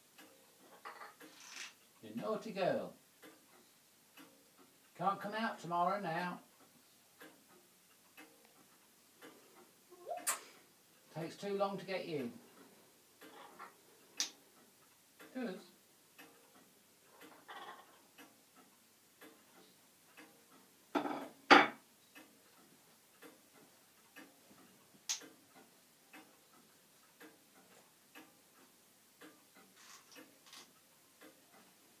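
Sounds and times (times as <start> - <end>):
clock ticking: 0.0 - 32.0.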